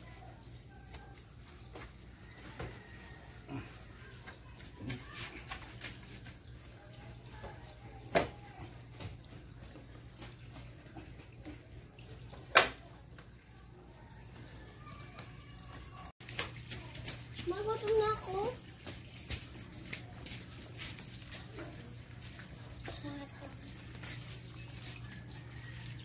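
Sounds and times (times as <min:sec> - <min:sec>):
water splashing and dripping: 0:00.0 - 0:26.0.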